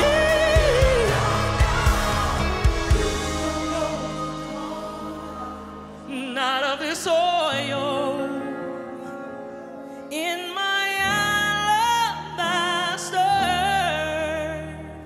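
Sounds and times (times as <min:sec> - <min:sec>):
woman singing with vibrato: 0:00.0 - 0:08.8, 0:10.1 - 0:15.0
soft keyboard and band notes: 0:00.0 - 0:15.0.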